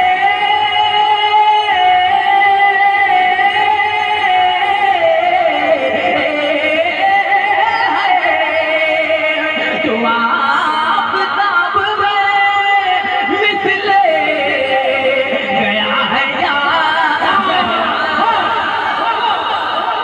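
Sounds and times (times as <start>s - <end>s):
man singing into a microphone: 0.0s - 19.5s.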